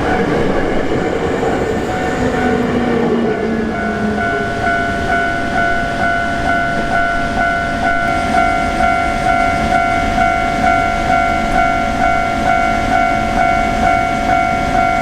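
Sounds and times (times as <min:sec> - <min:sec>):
electric train rumbling past: 0:00.0 - 0:15.0
level crossing bell ringing: 0:00.0 - 0:15.0.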